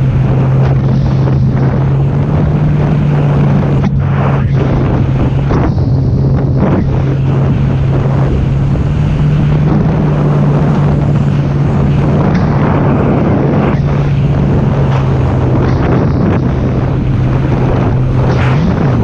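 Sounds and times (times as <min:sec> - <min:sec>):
jet ski engine drone: 0:00.0 - 0:19.0
wind buffeting microphone: 0:00.0 - 0:19.0.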